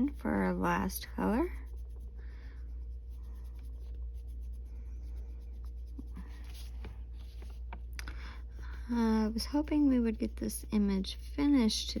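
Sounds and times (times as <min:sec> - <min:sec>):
pencil scratching on paper: 0:00.0 - 0:07.6, 0:08.2 - 0:12.0
steady low hum: 0:00.0 - 0:12.0.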